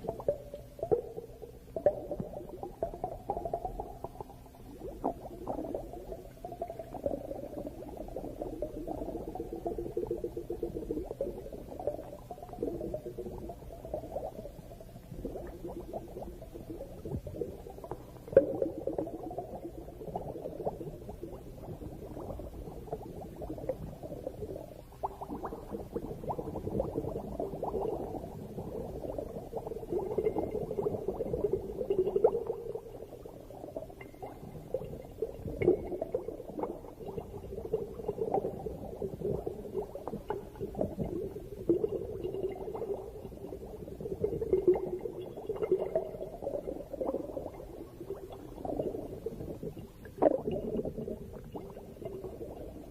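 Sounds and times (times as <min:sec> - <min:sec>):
underwater bubbling and gurgling: 0:00.0 - 0:52.9.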